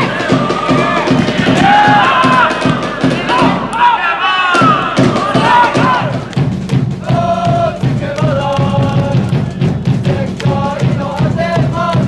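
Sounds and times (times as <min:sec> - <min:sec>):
voices singing long notes: 0:00.0 - 0:06.4, 0:07.0 - 0:12.0
steady drum beat: 0:00.0 - 0:12.0.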